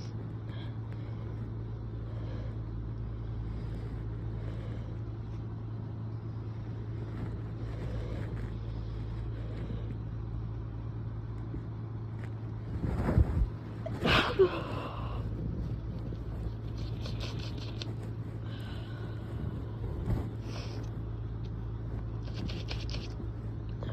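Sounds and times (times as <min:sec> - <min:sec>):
low hum and rumble: 0:00.0 - 0:23.9.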